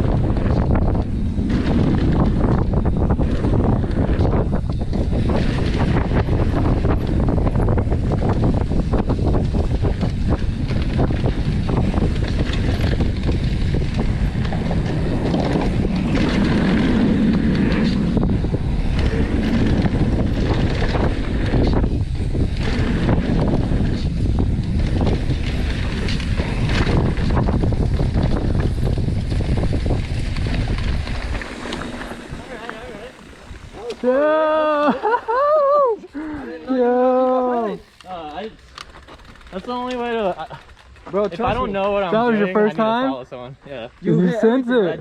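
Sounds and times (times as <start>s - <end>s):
bike rattles and knocks: 0.0s - 35.2s, 37.9s - 42.3s
wind buffeting microphone: 0.0s - 42.9s
bike tyres rumbling on dirt: 0.0s - 44.2s.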